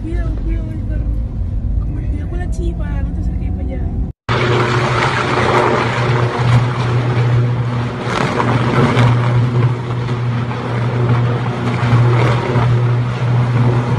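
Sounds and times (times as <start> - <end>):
loud low electrical buzz: 0.0 - 13.9
fire rushing: 0.9 - 13.9.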